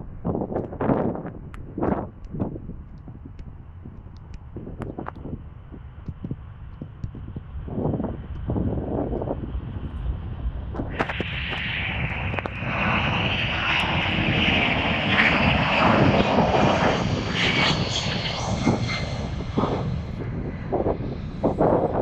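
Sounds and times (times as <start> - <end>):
jet engines running: 3.2 - 22.0.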